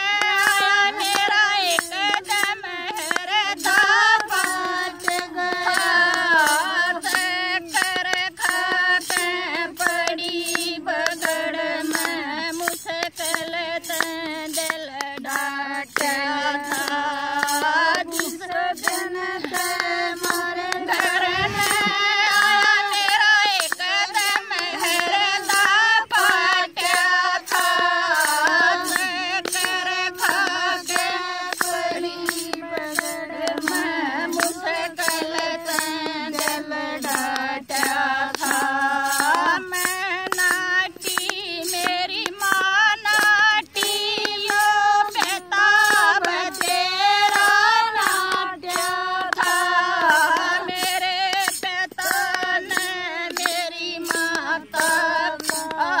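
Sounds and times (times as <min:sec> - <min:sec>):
sharp hand claps: 0:00.0 - 0:56.0
women singing folk song: 0:00.0 - 0:56.0.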